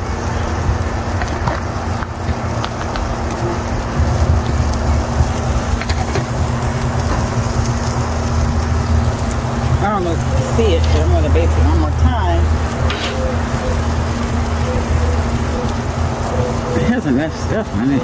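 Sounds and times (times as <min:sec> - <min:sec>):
wind buffeting microphone: 0:00.3 - 0:15.8.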